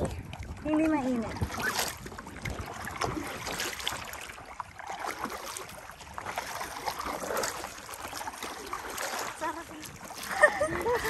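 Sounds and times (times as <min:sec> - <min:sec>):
paddle splashing in water: 0:00.0 - 0:11.0
wind rumbling on microphone: 0:00.0 - 0:11.0.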